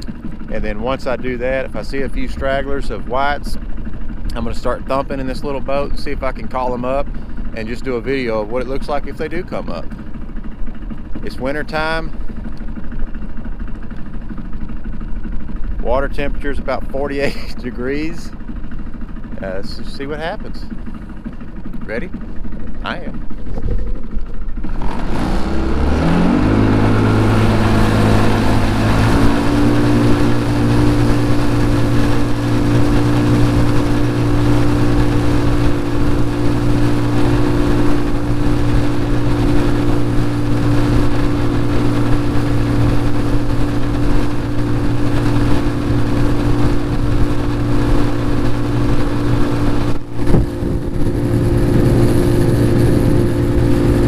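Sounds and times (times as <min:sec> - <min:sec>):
outboard motor running: 0:00.0 - 0:54.0
rush of wind and water: 0:00.0 - 0:54.0.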